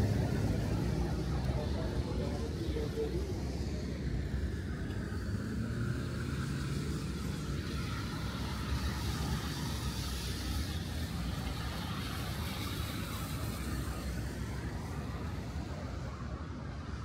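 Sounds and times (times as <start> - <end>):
cars driving by: 0.0 - 17.0.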